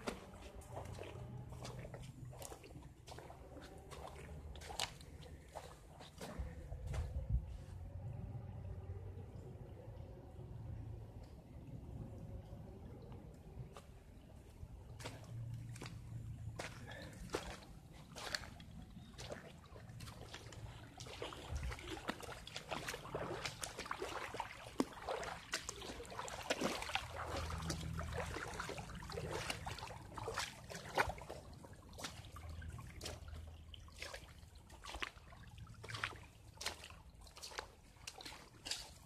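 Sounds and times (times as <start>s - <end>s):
footsteps splashing in water: 0.0s - 8.0s, 13.1s - 39.0s.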